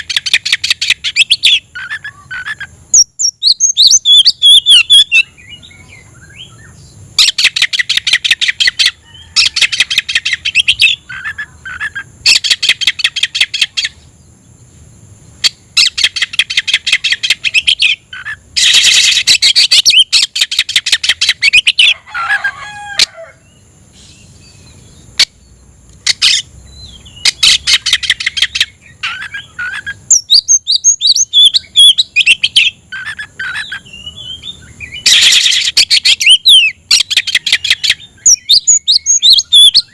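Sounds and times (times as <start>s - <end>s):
bird singing sharp stuttering notes: 0.0s - 14.0s, 15.3s - 21.9s, 24.0s - 39.9s
soft bird twittering: 0.0s - 21.9s, 23.4s - 39.9s.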